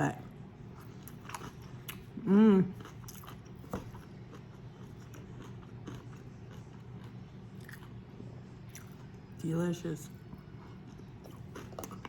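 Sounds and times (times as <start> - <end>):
person chewing crunchy food: 0.7 - 9.2, 10.3 - 12.0.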